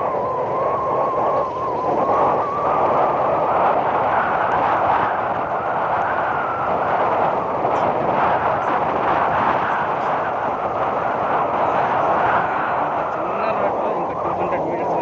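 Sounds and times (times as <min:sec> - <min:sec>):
faint wavering whine: 0:00.0 - 0:15.0
motorcycle engine drone: 0:00.0 - 0:15.0
wind rumble on microphone: 0:00.0 - 0:15.0.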